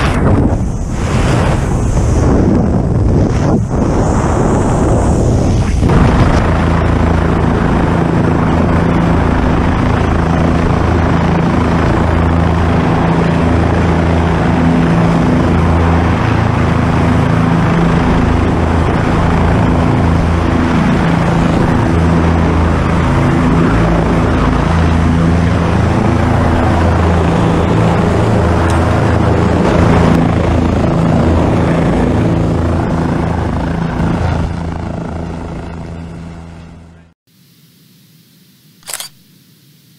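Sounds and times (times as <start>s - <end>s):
helicopter rotor and engine: 0.0s - 37.2s, 38.8s - 39.2s.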